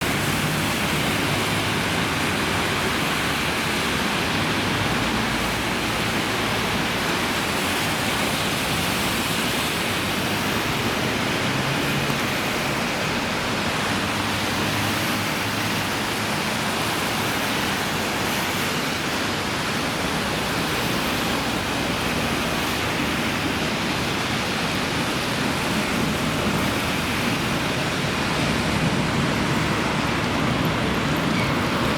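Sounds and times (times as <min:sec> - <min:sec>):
steady roar of noise: 0:00.0 - 0:31.9.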